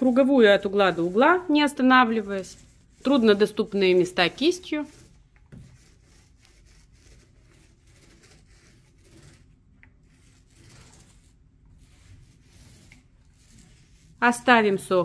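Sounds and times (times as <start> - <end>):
paint roller rubbing and swishing: 0.0 - 15.0.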